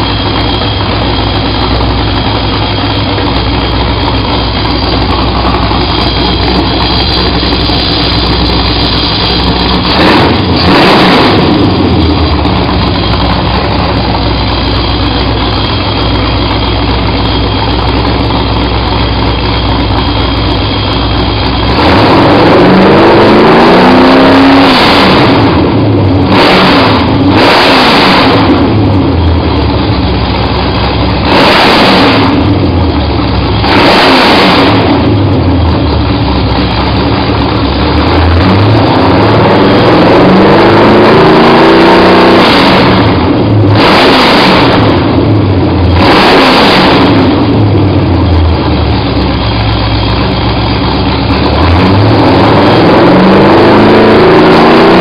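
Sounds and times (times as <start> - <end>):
engine idling and revving: 0.0 - 55.0.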